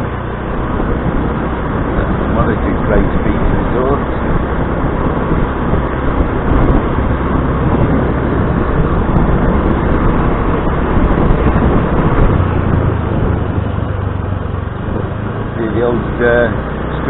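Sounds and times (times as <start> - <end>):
road noise: 0.0 - 17.0
scooter engine: 0.0 - 17.0
wind buffeting microphone: 0.0 - 17.0.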